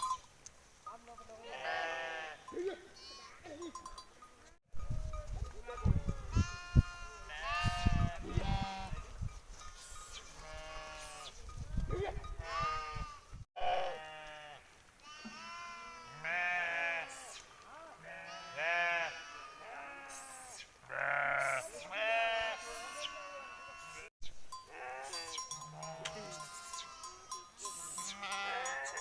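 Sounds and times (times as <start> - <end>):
sheep and goats bleating: 0.9 - 4.1, 5.2 - 29.0.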